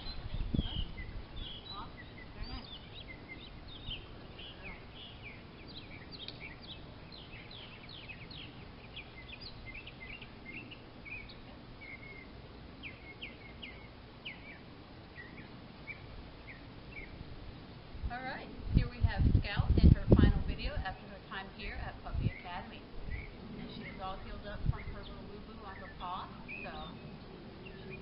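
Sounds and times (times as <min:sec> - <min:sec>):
faint outdoor background noise: 0:00.0 - 0:28.0
small birds chirping: 0:00.0 - 0:28.0.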